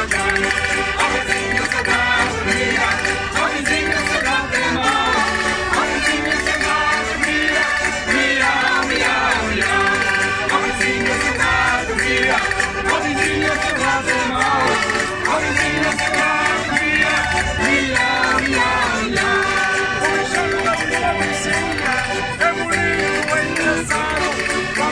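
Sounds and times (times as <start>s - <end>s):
group of people singing together: 0.0s - 24.9s
wooden percussion struck in time: 0.0s - 24.9s.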